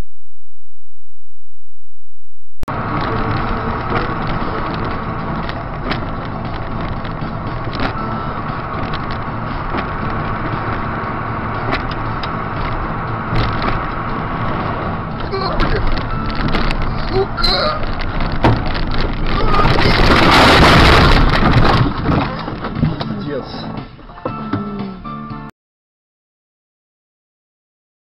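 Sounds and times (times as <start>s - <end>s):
constant whine: 0.0s - 24.1s
car road and engine noise: 2.6s - 25.5s.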